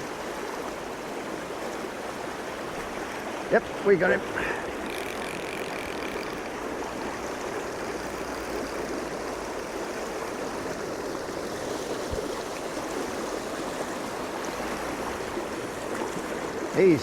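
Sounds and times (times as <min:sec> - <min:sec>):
stream rushing water: 0:00.0 - 0:17.0.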